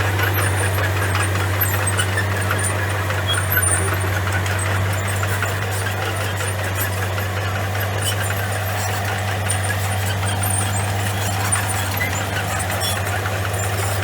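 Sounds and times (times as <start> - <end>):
bulldozer diesel engine droning: 0.0 - 14.0.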